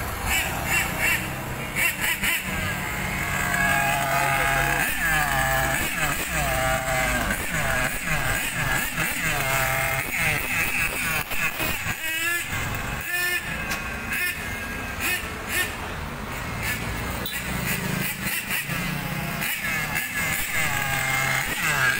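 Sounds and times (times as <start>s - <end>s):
vehicle engines in street traffic: 0.0s - 21.9s.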